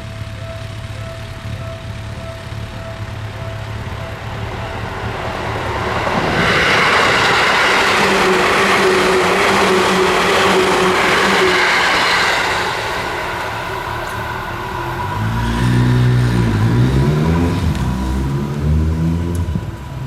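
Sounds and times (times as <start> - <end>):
commuter train passing: 0.0 - 20.0.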